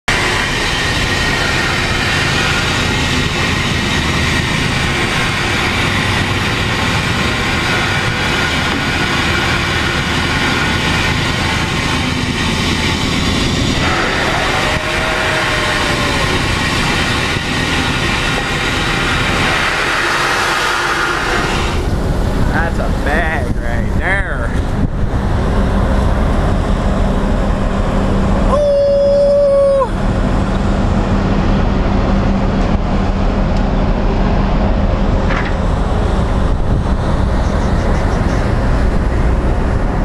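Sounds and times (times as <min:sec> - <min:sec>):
ship engines rumbling: 0:00.0 - 0:40.0.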